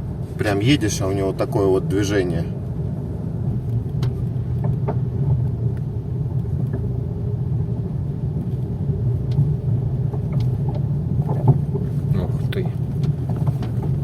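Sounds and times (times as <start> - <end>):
road rumble in car cabin: 0.0 - 14.0.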